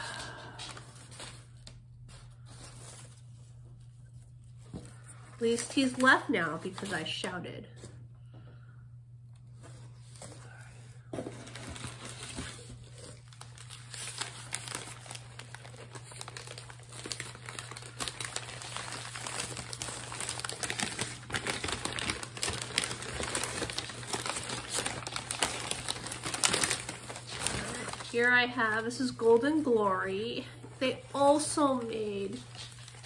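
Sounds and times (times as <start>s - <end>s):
paper rustling and crinkling: 0.0s - 7.9s, 9.5s - 33.0s.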